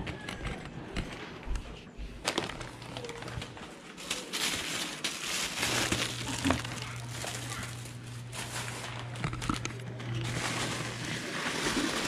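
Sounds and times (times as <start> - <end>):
plastic bag rustling: 2.2 - 12.0.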